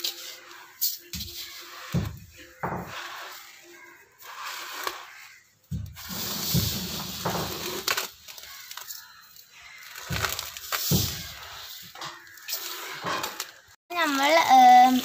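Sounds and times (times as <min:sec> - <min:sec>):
damp sugar crunching in steel pot: 0:00.1 - 0:15.0.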